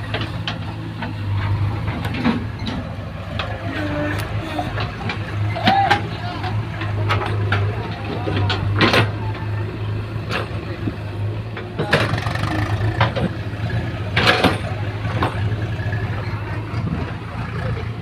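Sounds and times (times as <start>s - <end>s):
machine clanks and knocks: 0.0s - 3.7s, 4.3s - 9.6s, 10.2s - 16.0s
diesel engine running: 0.0s - 18.0s.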